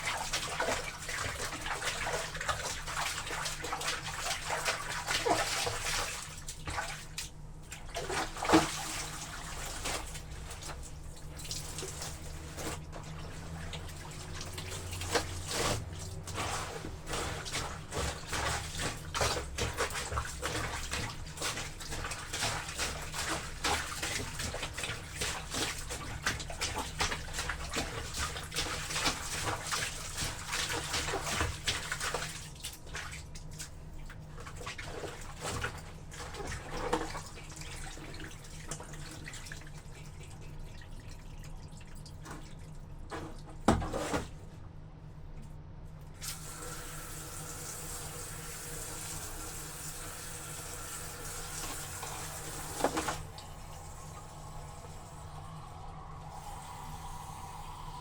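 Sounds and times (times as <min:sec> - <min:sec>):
wet clothes sloshing in water: 0:00.0 - 0:45.4, 0:46.1 - 0:58.0.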